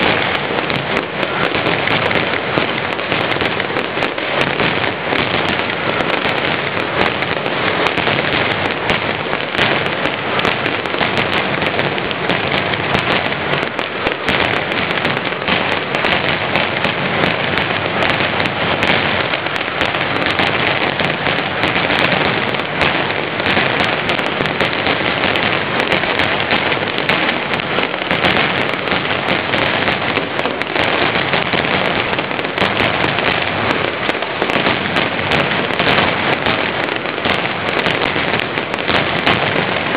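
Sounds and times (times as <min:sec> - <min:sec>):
firecrackers barrage: 0:00.0 - 0:39.9.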